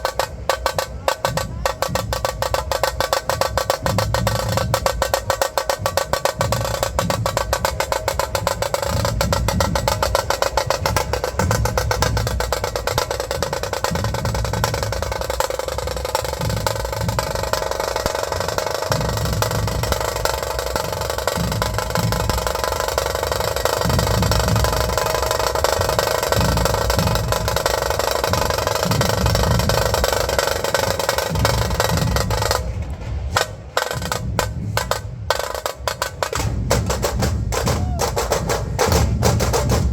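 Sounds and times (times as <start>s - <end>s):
dhol drums fast rhythm: 0.0s - 39.9s.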